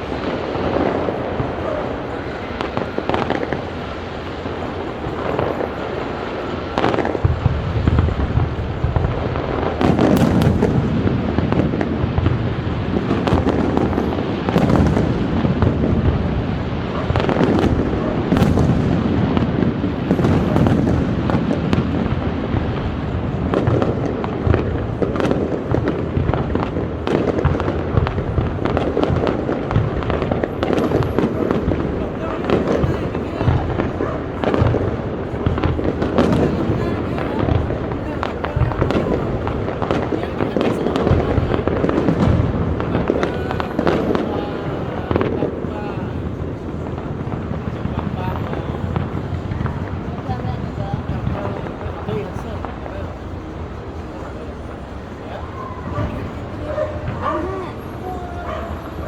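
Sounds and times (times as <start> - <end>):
fireworks booms and crackling: 0.0 - 59.0
sharp firework cracks: 0.0 - 59.0.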